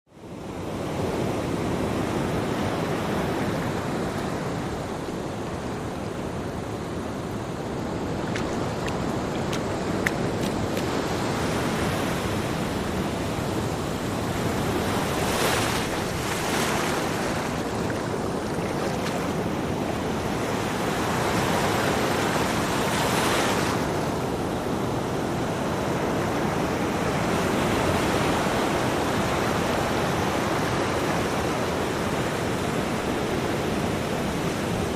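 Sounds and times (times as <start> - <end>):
ocean waves breaking on a beach: 0.1 - 34.9.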